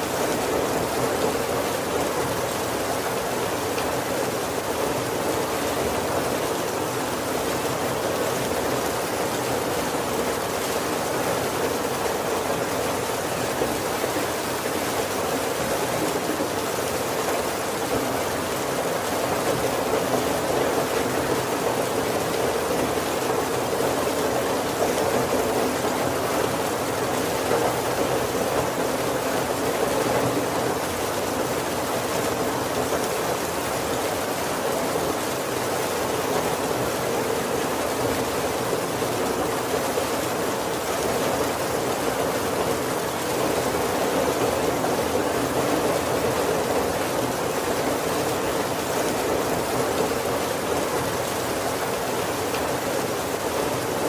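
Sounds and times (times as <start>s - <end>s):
heavy rain on roof and windows: 0.0s - 54.0s.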